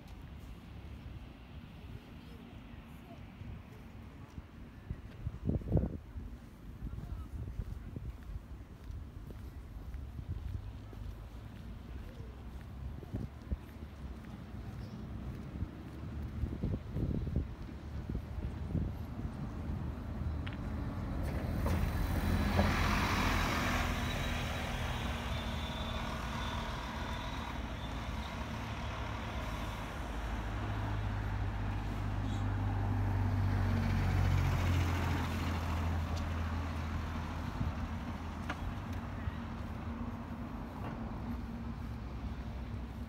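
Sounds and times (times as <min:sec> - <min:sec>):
vehicles driving by: 0:00.0 - 0:43.0.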